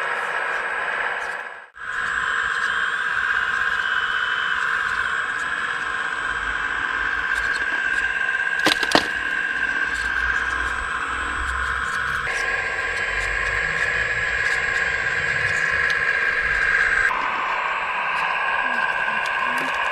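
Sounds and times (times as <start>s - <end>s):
hydraulic pump and motor whining: 2.0s - 19.9s.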